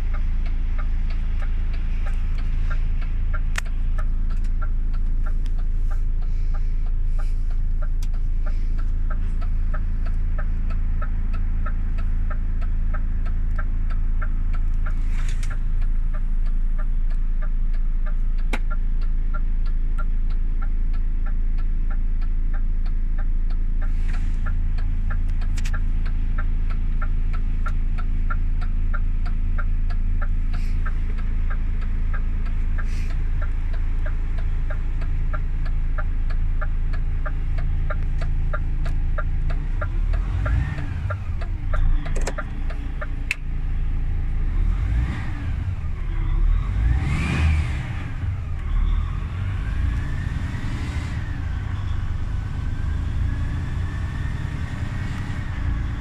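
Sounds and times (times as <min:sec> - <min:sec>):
diesel truck engine idling and revving: 0:00.0 - 0:56.0
light ticking: 0:00.0 - 0:56.0.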